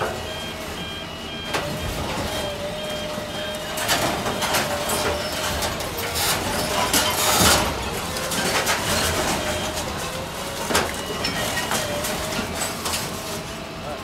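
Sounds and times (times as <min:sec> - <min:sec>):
grapple loader droning: 0:00.0 - 0:14.0.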